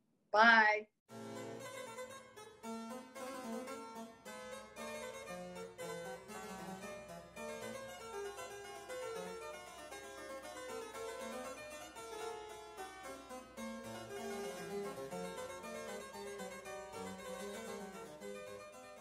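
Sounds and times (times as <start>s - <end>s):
harpsichord-like keyboard music: 1.1s - 19.0s.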